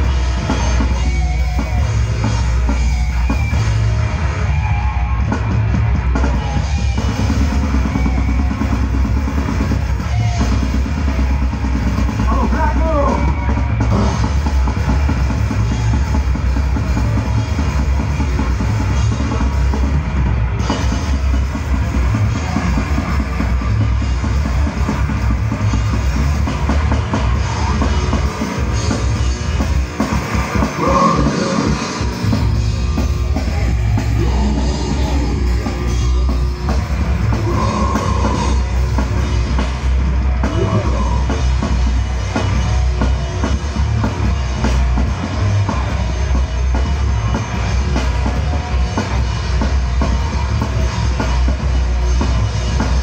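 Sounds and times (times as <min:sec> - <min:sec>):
distorted electric guitars: 0:00.0 - 0:53.0.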